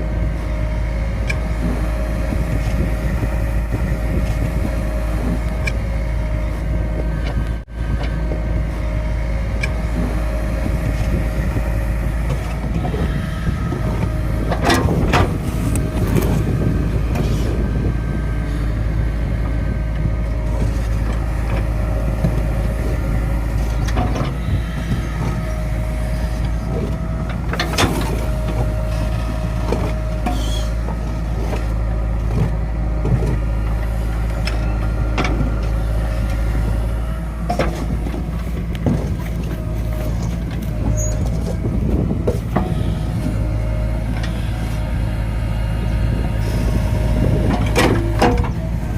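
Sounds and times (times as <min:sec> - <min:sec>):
diesel engine running: 0:00.0 - 0:48.9
steady whine: 0:00.0 - 0:48.9.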